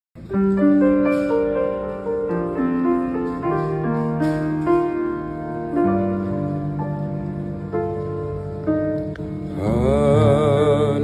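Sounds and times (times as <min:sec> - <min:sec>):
slow grand piano melody: 0:00.2 - 0:11.0.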